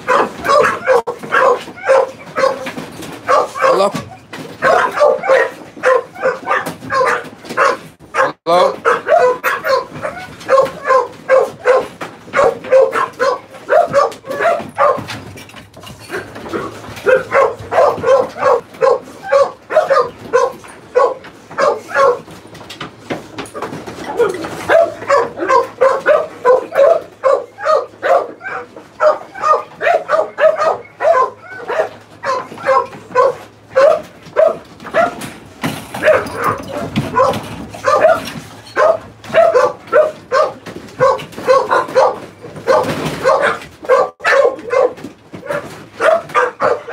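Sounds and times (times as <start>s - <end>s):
dogs barking rapidly: 0.0s - 46.9s.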